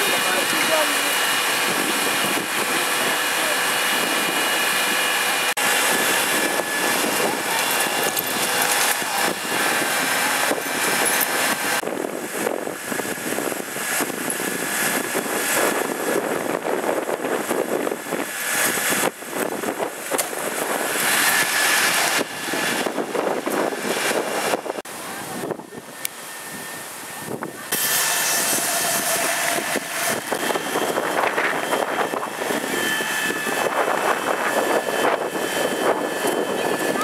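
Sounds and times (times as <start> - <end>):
diesel engine and pump droning: 0.0 - 37.0.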